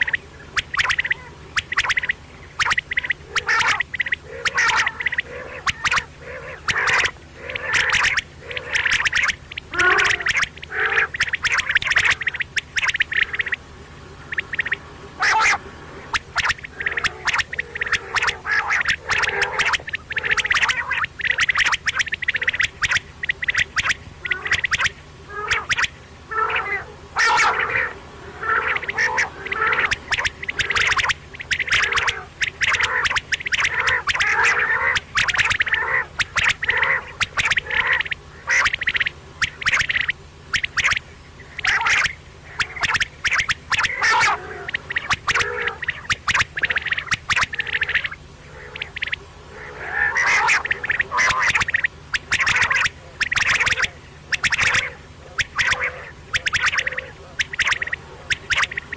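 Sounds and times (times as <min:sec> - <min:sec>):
quail calling: 0:00.0 - 0:58.9.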